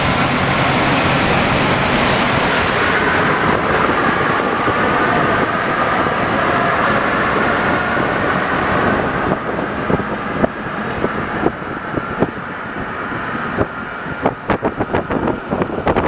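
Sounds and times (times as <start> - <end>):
metro train rumbling on track: 0.0 - 16.0.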